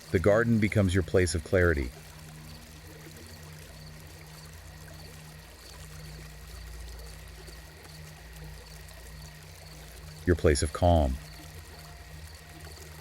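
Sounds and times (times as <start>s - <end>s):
low steady drone: 0.0s - 13.0s
trickling water: 0.0s - 13.0s.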